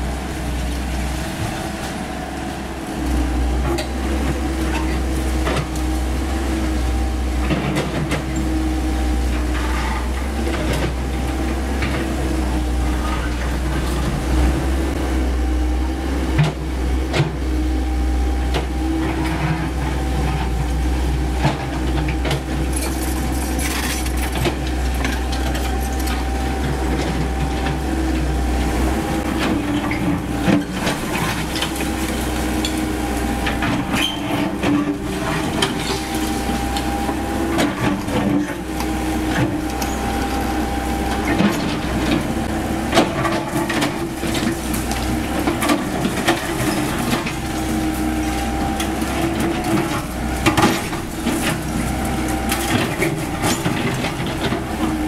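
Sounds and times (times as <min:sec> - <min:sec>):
excavator diesel engine rumbling: 0:00.0 - 0:55.0.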